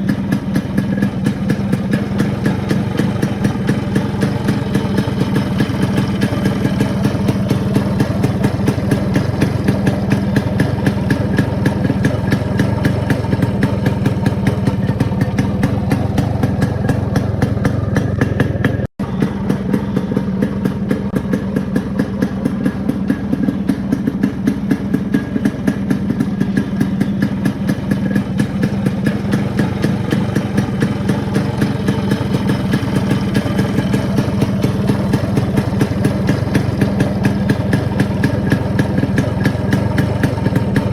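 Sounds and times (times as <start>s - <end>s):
two-stroke engine idling: 0.0s - 40.9s.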